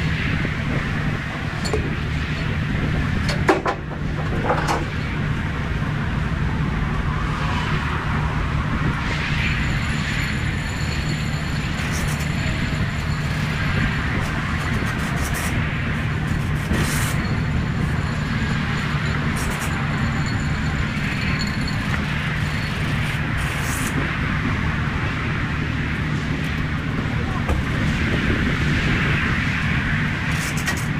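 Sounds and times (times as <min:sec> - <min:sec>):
road noise: 0:00.0 - 0:30.9
truck engine drone: 0:00.0 - 0:30.9.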